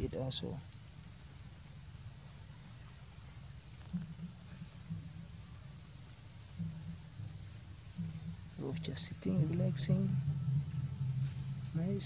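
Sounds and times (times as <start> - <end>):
insects droning: 0.0 - 12.0
faint low rumble: 1.9 - 12.0.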